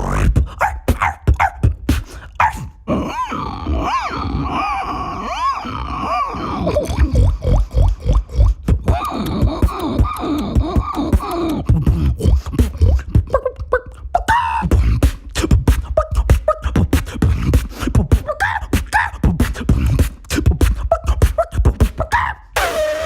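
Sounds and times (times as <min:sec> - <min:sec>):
beatboxing: 0:00.0 - 0:23.0.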